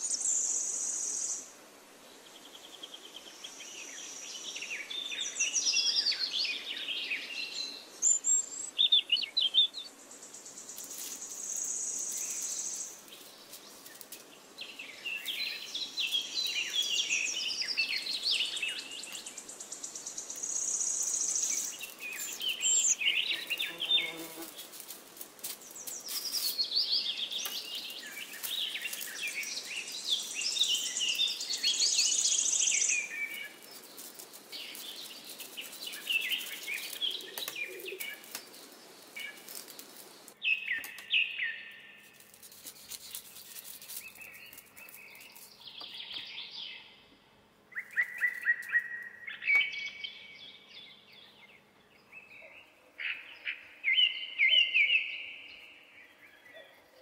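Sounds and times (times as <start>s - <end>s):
birds chirping and singing: 3.9s - 24.8s, 25.6s - 41.8s, 47.7s - 57.0s.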